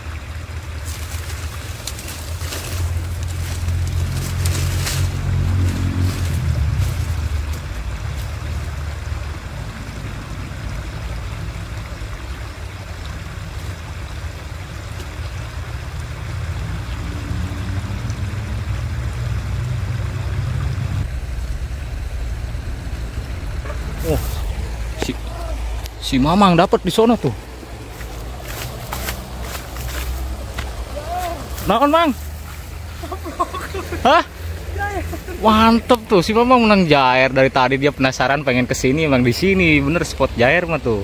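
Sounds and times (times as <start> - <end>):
river flowing over rocks: 0.0 - 41.0.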